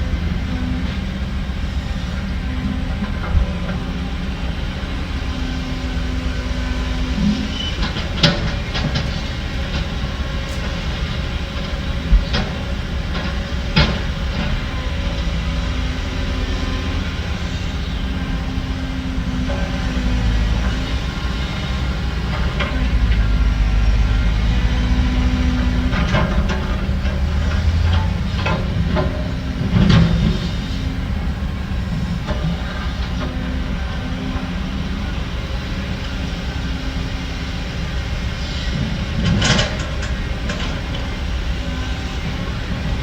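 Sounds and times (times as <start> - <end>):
diesel earthmoving machinery rumbling: 0.0 - 43.0.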